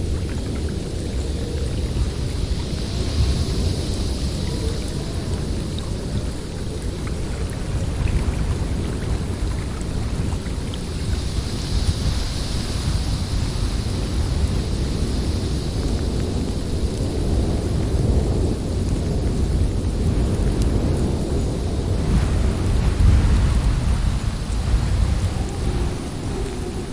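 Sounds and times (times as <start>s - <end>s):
snowstorm wind gusts: 0.0s - 26.9s.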